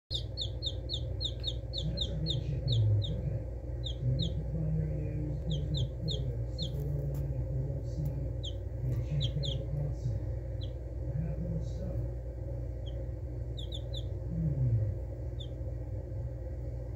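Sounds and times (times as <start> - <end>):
baby chicks peeping: 0.1 - 15.9
low steady rumble: 0.1 - 16.9.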